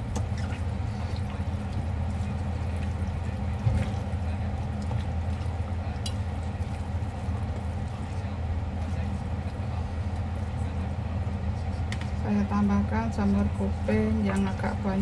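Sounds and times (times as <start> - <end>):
wet squelching of hand mixing: 0.0 - 12.2
steady low hum: 0.0 - 15.0.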